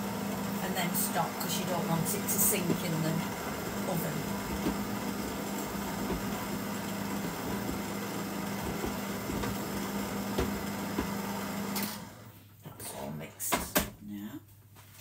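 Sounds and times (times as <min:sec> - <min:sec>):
stand mixer motor humming: 0:00.0 - 0:12.3.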